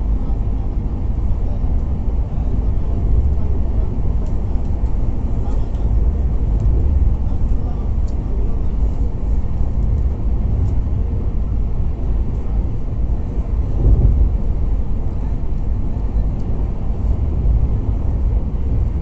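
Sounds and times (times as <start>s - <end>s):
train rumbling at speed: 0.0s - 19.0s.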